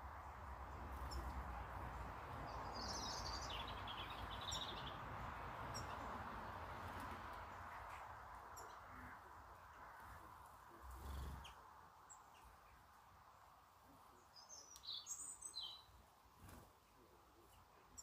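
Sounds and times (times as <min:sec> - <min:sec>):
songbird chirps: 0:00.0 - 0:18.0.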